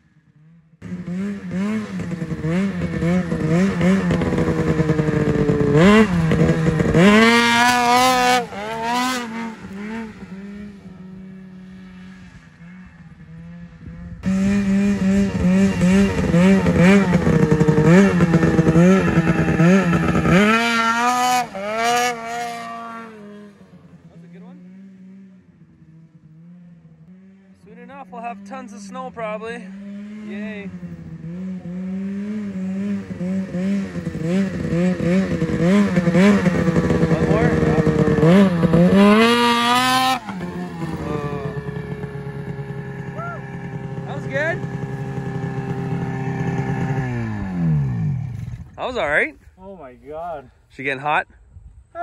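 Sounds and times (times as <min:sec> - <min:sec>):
snowmobile engine revving: 0:00.0 - 0:51.2.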